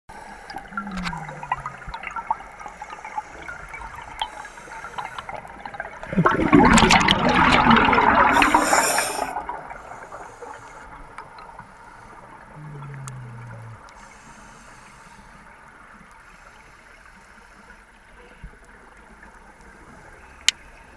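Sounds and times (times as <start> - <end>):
underwater air bubbles: 0.1 - 20.9.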